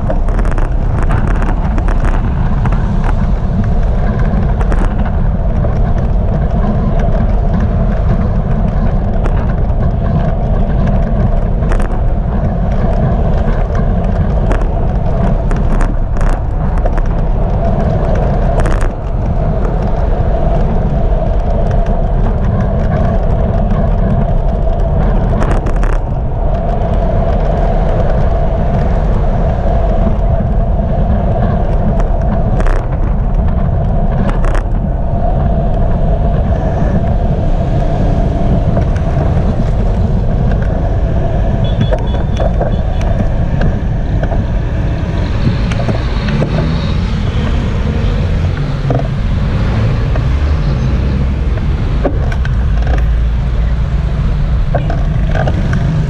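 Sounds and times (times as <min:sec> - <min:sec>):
car traffic: 0:00.0 - 0:56.0
wind and road noise: 0:00.0 - 0:56.0.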